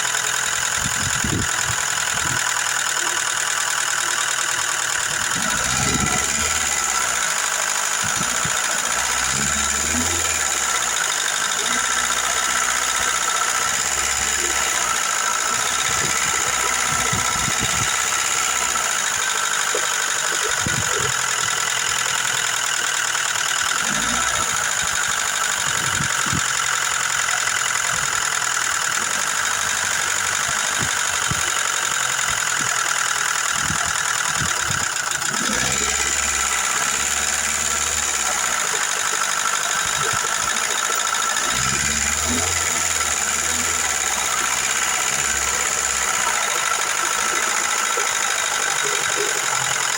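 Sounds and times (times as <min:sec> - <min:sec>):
car engine idling: 0:00.0 - 0:49.9
hydraulic lifter ticking: 0:00.0 - 0:49.9.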